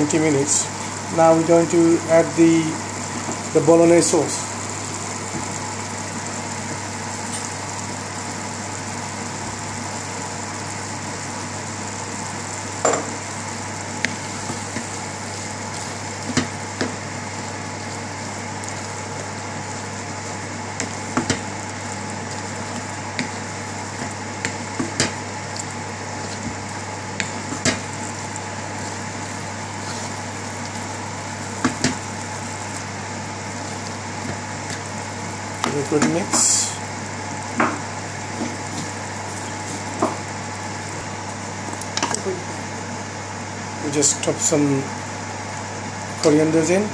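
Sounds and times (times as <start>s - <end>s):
meat sizzling in a frying pan: 0.0s - 46.9s.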